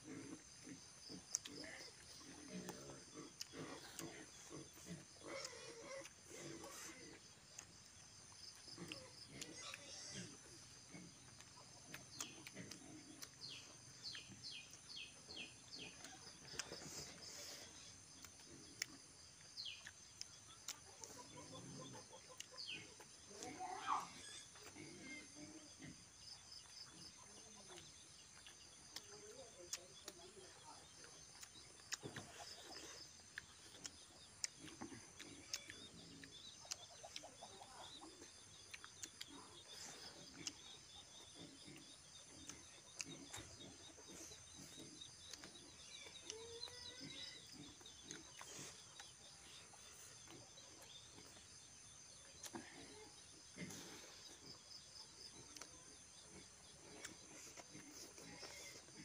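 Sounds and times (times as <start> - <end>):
faint steady chirping: 0.0 - 59.0
faint chewing and lip smacks: 0.1 - 25.1, 25.8 - 59.0.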